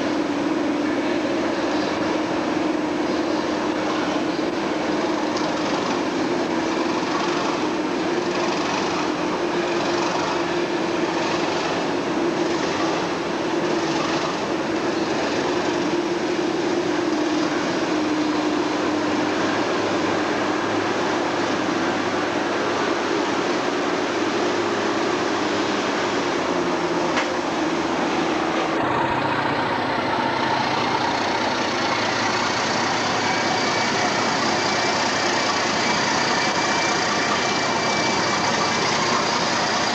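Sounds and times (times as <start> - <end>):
train rail and engine noise: 0.0 - 39.9.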